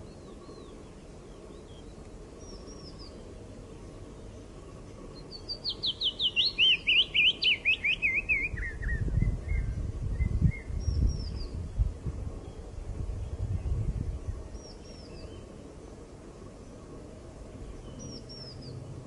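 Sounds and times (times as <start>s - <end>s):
warbler singing down-slurred notes: 0.0s - 19.0s.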